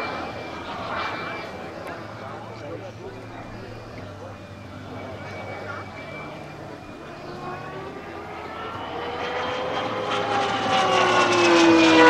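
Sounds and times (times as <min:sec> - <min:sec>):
model plane engine whining: 0:00.0 - 0:12.0.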